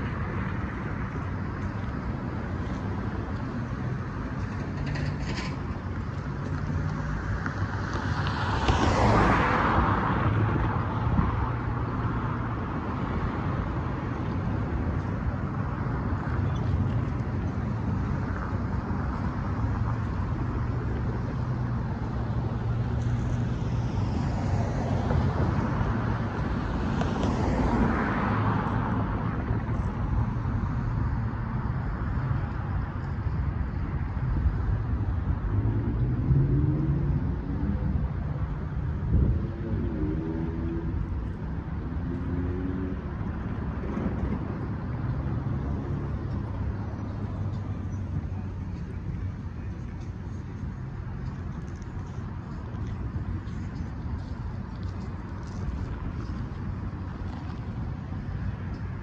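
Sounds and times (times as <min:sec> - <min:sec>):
cars passing close by: 0:00.0 - 0:59.0
traffic rumble: 0:00.0 - 0:59.0.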